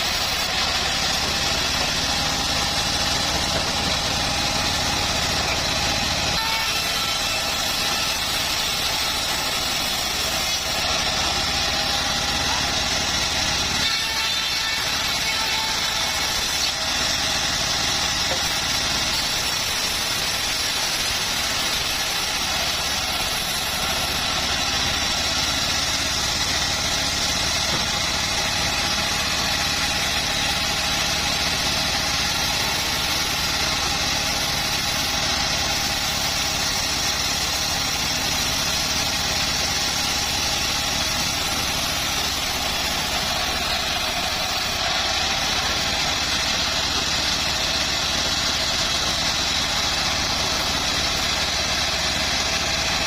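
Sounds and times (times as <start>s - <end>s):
bandsaw mill sawing wood: 0.0s - 53.0s.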